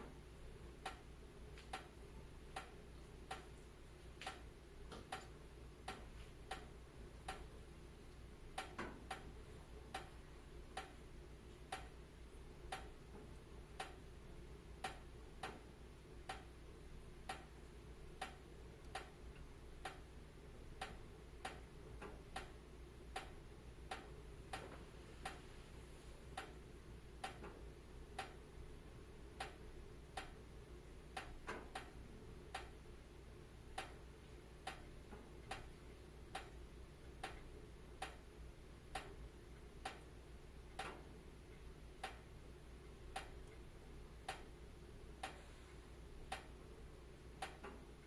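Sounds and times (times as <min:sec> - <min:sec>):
steady low hiss: 0:00.0 - 0:48.0.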